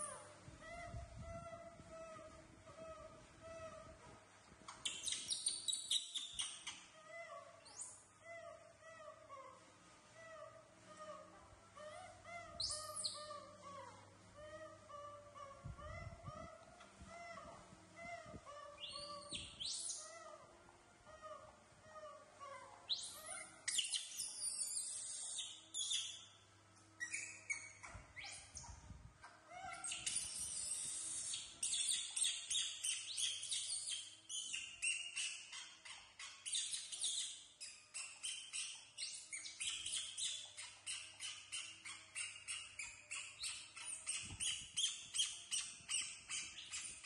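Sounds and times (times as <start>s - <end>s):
monkeys squeaking and chirping: 4.7s - 9.6s, 10.2s - 20.4s, 21.2s - 26.3s, 27.0s - 28.8s, 29.5s - 47.0s.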